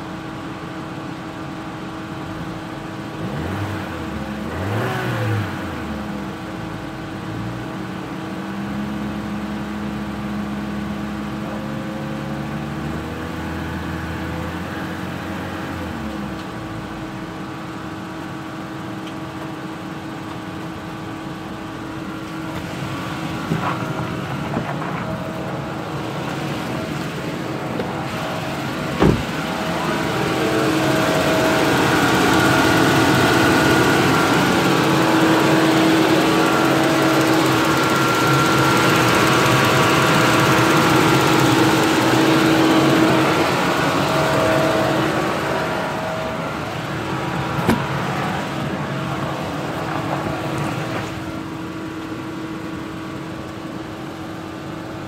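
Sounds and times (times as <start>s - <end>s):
car engine running with whine: 0.0s - 55.0s.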